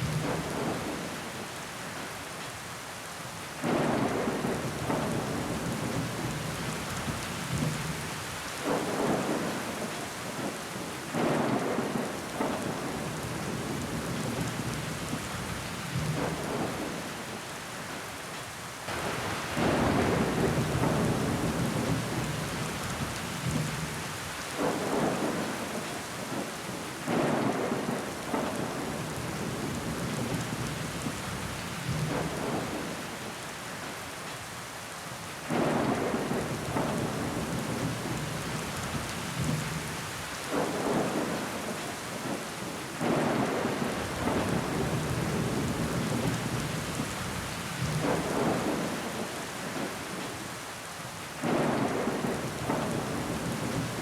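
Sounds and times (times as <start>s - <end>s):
rain pattering on a window: 0.0s - 54.0s.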